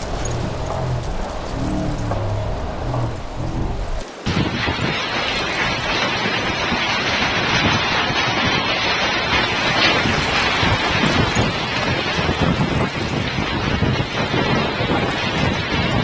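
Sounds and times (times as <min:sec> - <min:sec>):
hailstones pelting down: 0:00.0 - 0:16.0.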